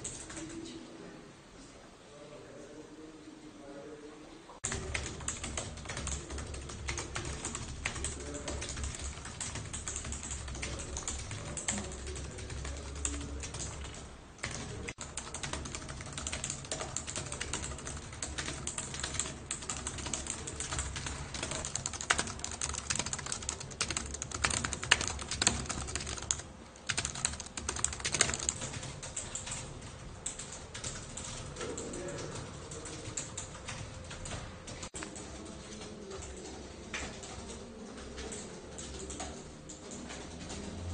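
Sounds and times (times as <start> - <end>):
fast typing on keyboard: 0.0 - 0.6, 4.6 - 40.9.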